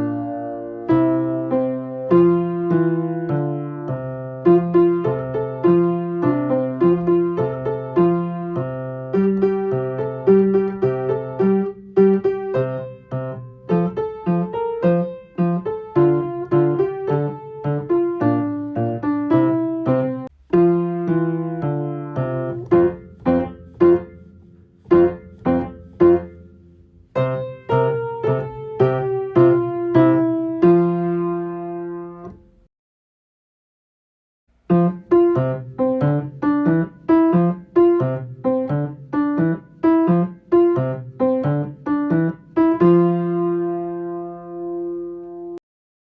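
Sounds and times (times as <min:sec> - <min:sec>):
solo piano playing: 0:00.0 - 0:32.7, 0:34.6 - 0:45.6.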